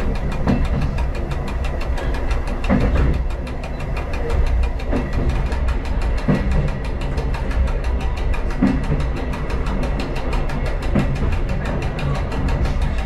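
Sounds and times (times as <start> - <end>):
diesel train engine: 0.0 - 13.0
wheels knocking on track: 0.0 - 13.0.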